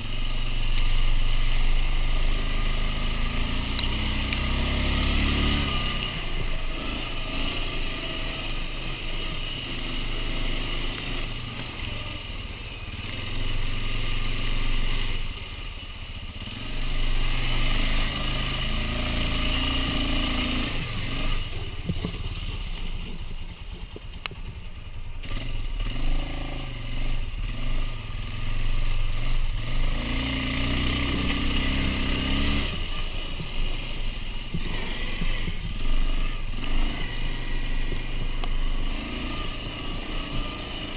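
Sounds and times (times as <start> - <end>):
quad bike engine revving: 0.0 - 15.6, 16.3 - 23.8, 25.2 - 40.9.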